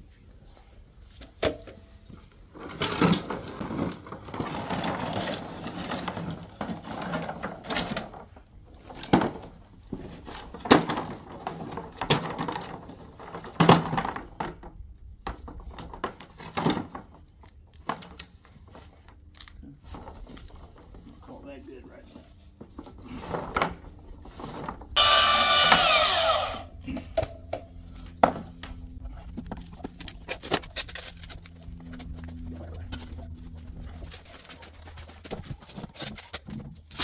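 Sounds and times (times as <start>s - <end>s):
rustling and scraping: 0.0s - 25.0s, 25.8s - 37.0s.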